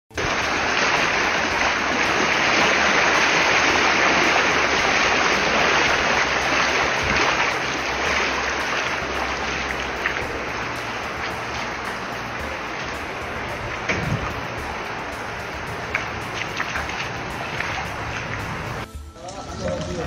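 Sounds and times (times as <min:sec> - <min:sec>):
water rushing in a street: 0:00.1 - 0:18.9.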